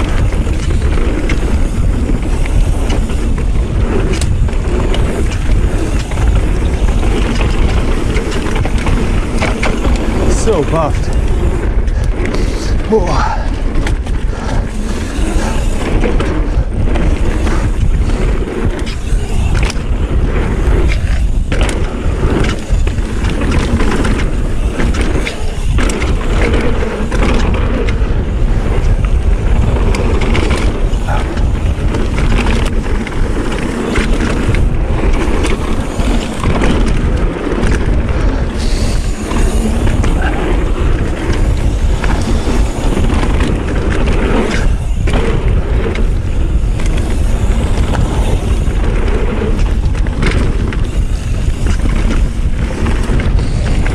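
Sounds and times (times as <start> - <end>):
bike rattling over bumps: 0.0 - 53.9
bike tyres rolling on dirt: 0.0 - 53.9
wind rush on microphone: 0.0 - 53.9.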